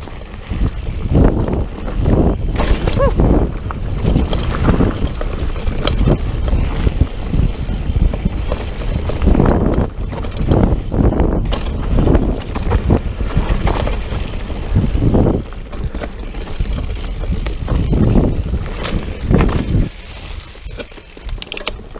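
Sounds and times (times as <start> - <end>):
bike rattling over bumps: 0.0 - 21.9
bike tyres rumbling on dirt: 0.0 - 21.9
wind rumble on microphone: 0.0 - 21.9.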